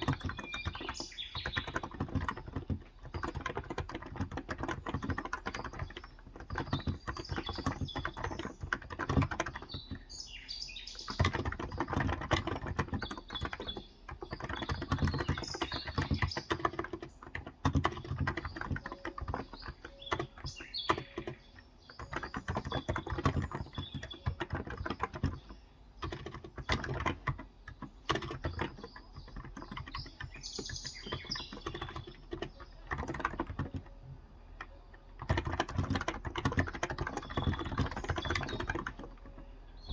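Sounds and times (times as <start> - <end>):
birds chirping: 0.0 - 39.9
fast keyboard typing: 0.0 - 39.9.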